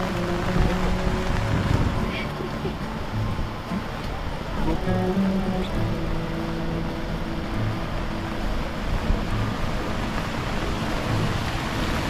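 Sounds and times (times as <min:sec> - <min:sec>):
wind and rain on microphone: 0:00.0 - 0:12.0.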